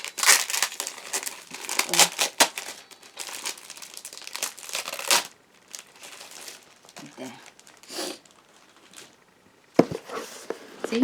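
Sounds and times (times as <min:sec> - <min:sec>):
packaging crinkling and crackling: 0:00.0 - 0:09.4.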